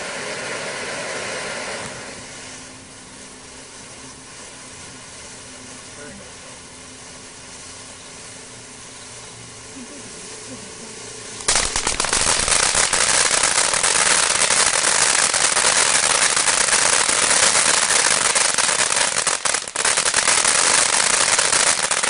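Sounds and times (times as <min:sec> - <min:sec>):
firework fountain crackling: 0:00.0 - 0:22.0.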